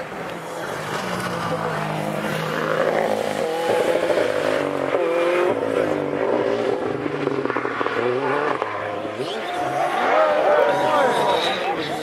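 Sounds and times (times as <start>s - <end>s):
rally car engine revving: 0.5s - 12.0s.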